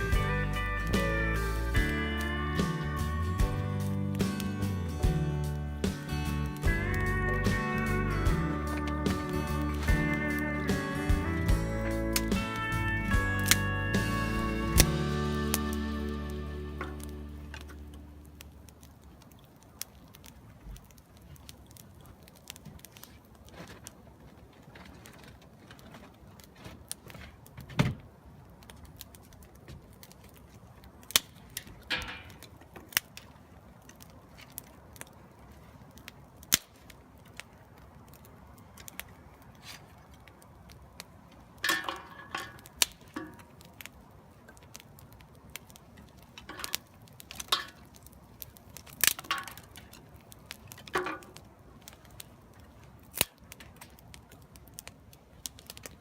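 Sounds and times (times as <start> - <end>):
sharp pops of fire: 0.0 - 56.0
wood fire crackling: 0.0 - 56.0.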